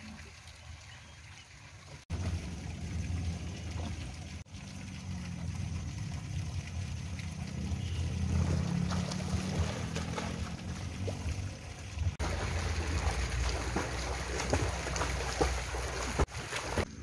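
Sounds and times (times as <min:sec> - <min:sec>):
pool water splashing: 0:00.0 - 0:17.0.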